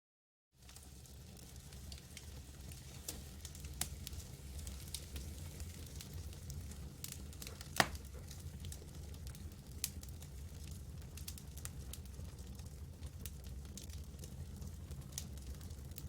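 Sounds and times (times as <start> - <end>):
campfire crackling and popping: 0.6 - 16.0.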